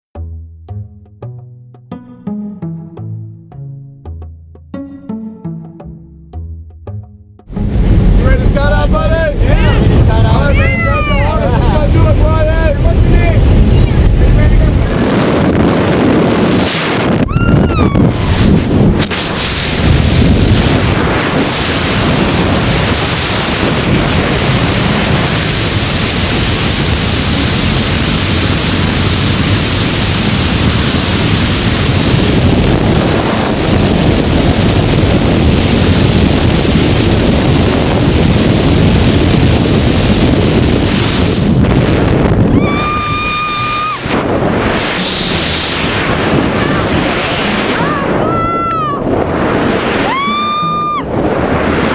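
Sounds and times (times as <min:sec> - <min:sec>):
wind rushing over microphone: 0:07.5 - 0:51.9.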